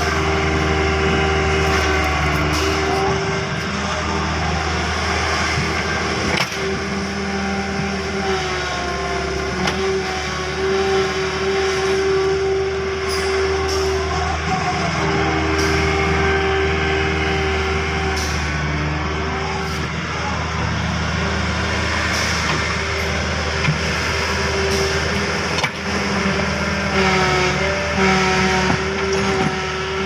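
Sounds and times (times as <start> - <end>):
bulldozer diesel engine whining: 0.0 - 30.0.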